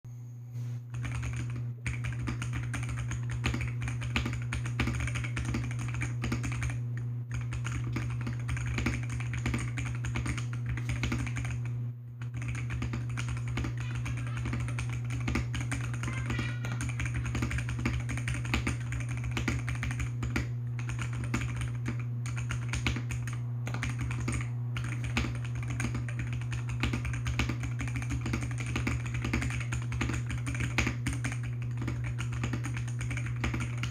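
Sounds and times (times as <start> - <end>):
steady low hum: 0.1 - 33.9
fast typing on mechanical keyboard: 0.9 - 33.9.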